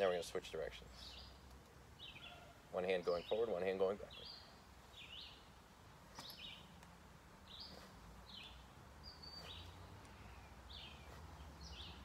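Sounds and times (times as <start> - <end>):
faint bird chirping: 0.6 - 12.0.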